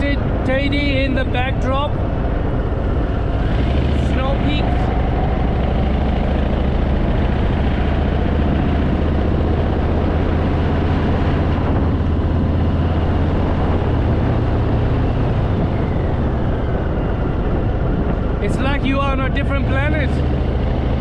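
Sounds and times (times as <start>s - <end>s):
wind noise: 0.0s - 21.0s
motorcycle engine running: 1.9s - 21.0s.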